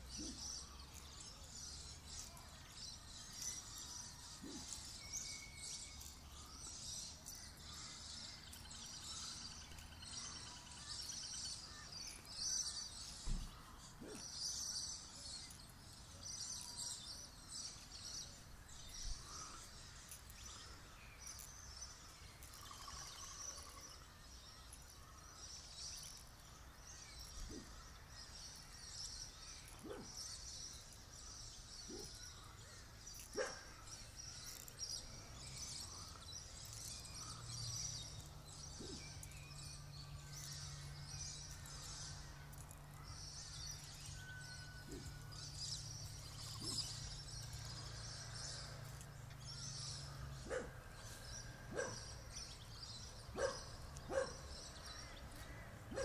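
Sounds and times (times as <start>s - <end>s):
many birds chirping: 0.0s - 56.0s.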